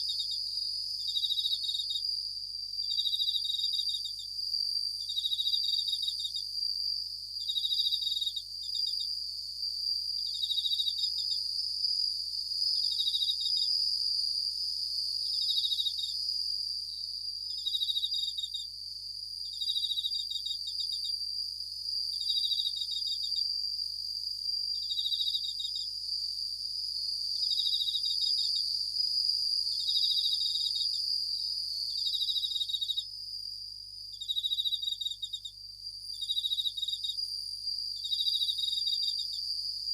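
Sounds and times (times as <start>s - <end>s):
crickets singing pulsed trills: 0.0s - 39.9s.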